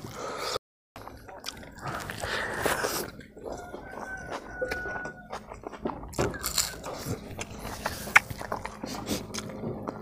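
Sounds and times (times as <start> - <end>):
crunchy chewing: 1.0 - 10.0.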